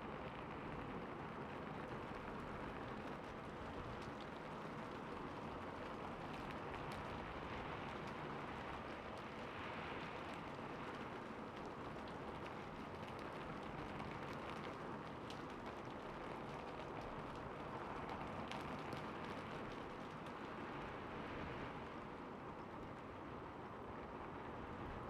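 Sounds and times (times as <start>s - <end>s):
rain on a rooftop: 0.0s - 25.0s.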